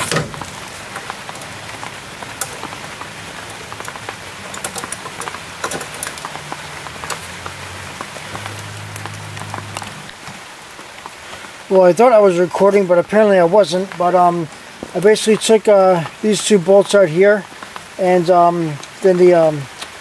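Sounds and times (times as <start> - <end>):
steady rain-like hiss: 0.0 - 20.0.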